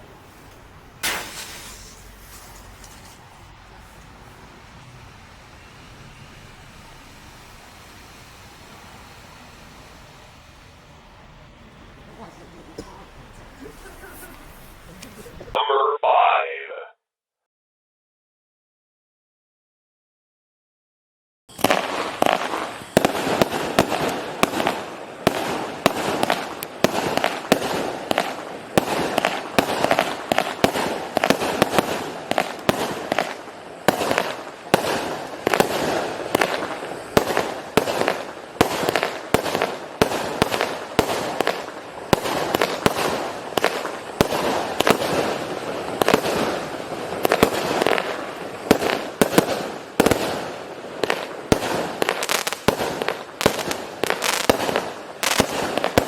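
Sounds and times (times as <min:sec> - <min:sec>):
fireworks crackling: 0:00.0 - 0:15.6, 0:21.5 - 0:56.0
fireworks sharp reports: 0:01.0 - 0:02.6, 0:04.4 - 0:16.9, 0:21.5 - 0:56.0.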